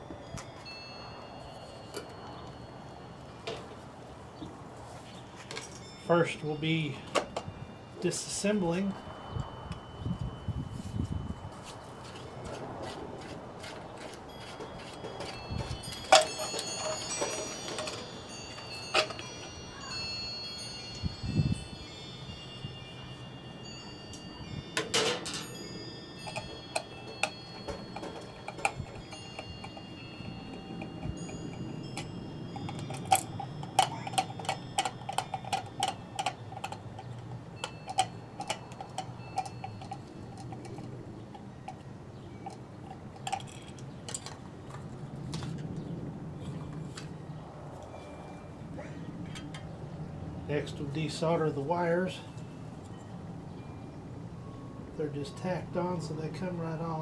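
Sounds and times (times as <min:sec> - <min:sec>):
wind chimes ringing: 0:00.0 - 0:57.0.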